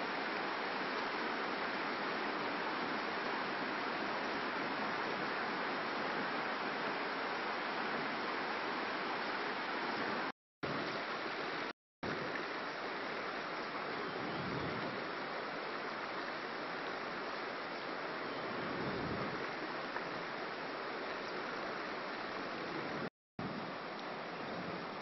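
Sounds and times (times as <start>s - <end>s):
flowing river water: 0.0s - 25.0s.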